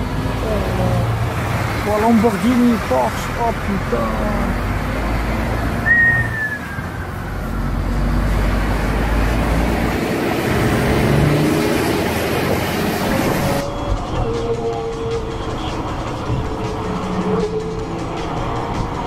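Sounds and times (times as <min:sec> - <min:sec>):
car driving on highway: 0:00.0 - 0:19.0
heavy low traffic rumble: 0:00.0 - 0:19.0.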